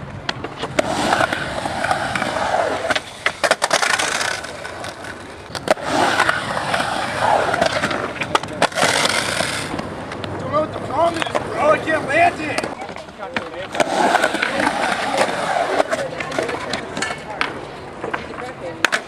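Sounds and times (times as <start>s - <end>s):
skateboard clacks: 0.0s - 19.0s
skateboard wheels rolling: 0.0s - 19.0s.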